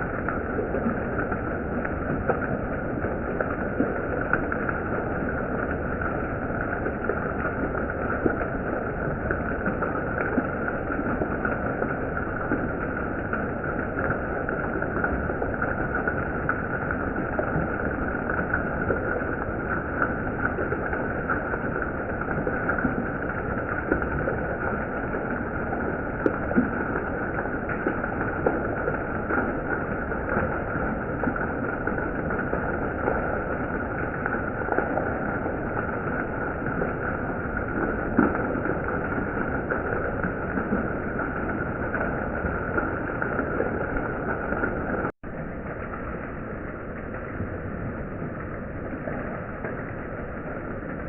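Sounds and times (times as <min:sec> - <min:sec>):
heavy rain: 0:00.0 - 0:51.0.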